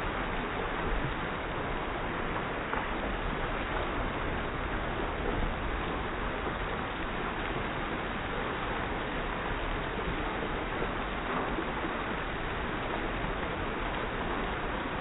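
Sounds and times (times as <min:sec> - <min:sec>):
hail falling: 0:00.0 - 0:15.0.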